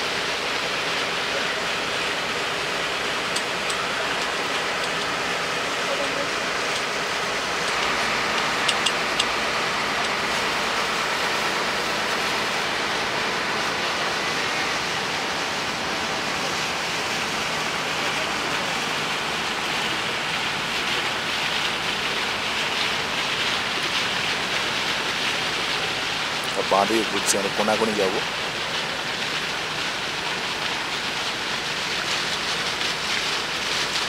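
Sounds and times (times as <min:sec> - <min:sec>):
boat engine drone: 0:00.0 - 0:34.0
water washing along hull: 0:00.0 - 0:34.0.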